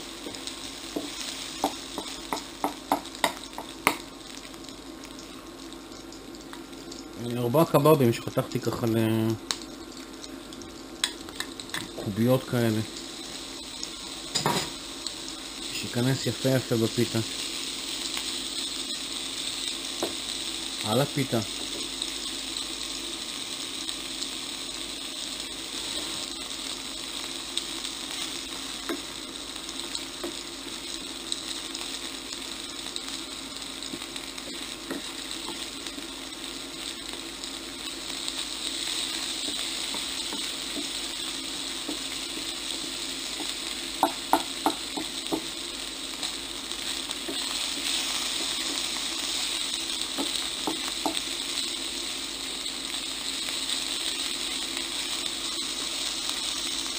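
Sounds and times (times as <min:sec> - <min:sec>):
food sizzling in oil: 0:00.0 - 0:56.9.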